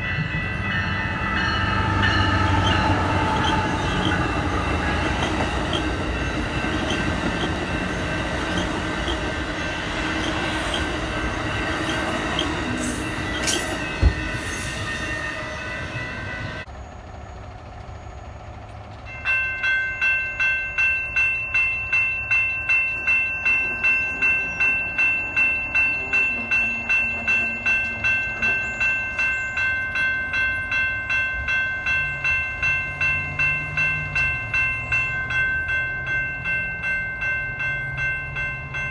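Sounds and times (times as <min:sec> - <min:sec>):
passenger train rolling past: 0:00.0 - 0:38.9
railroad crossing bell ringing: 0:00.0 - 0:38.9.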